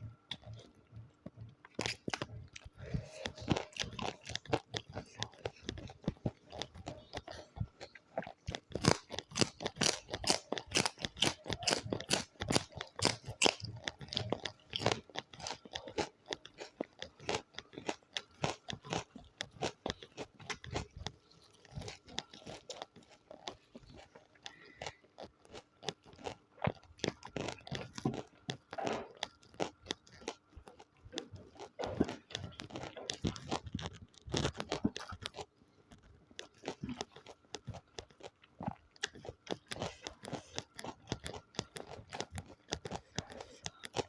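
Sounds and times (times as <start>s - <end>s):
person chewing and crunching food: 0.0s - 44.0s.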